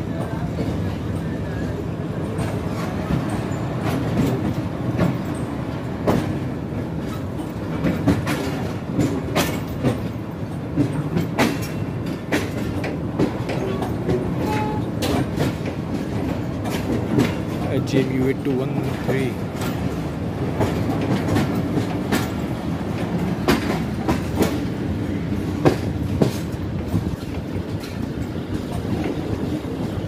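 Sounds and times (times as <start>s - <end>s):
train wheels rumbling: 0.0s - 30.0s
wheels clacking over rail joints: 0.1s - 30.0s.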